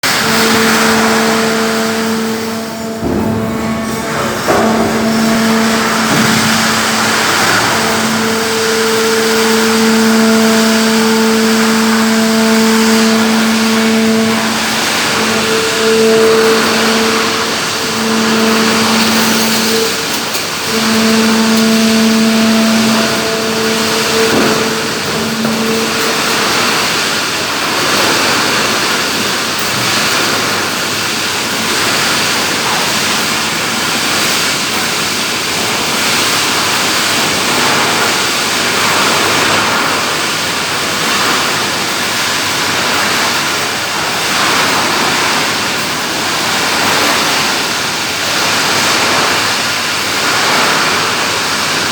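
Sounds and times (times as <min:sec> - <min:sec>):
steady hum: 0:00.0 - 0:49.4.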